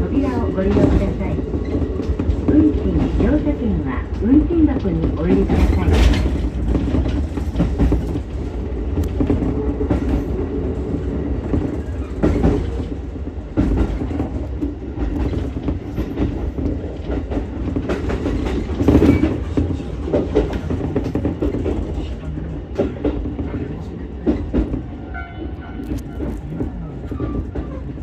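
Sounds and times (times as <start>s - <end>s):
train wheels rumbling on rail: 0.0s - 28.0s
wheels clacking over rail joints: 0.1s - 28.0s.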